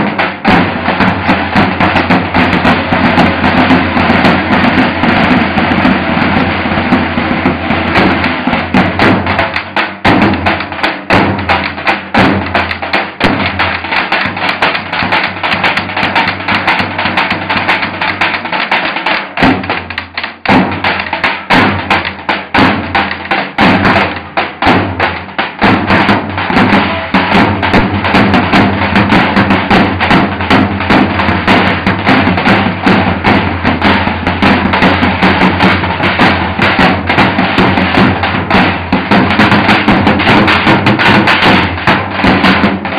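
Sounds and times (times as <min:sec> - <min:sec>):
bass drums fast rhythm: 0:00.0 - 0:42.9.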